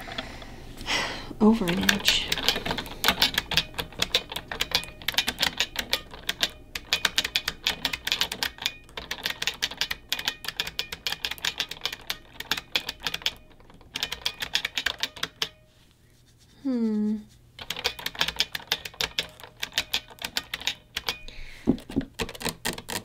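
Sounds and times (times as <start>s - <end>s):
mechanical keyboard typing: 1.4s - 15.6s, 17.6s - 23.0s.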